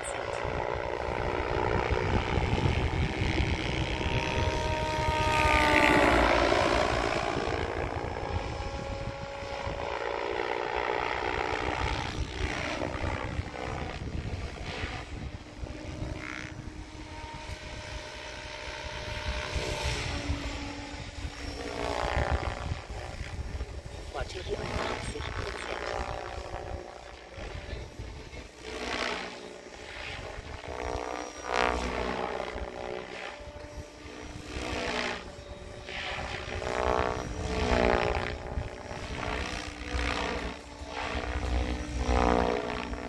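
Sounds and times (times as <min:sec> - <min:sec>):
rc helicopter rotor whine: 0:00.0 - 0:43.0.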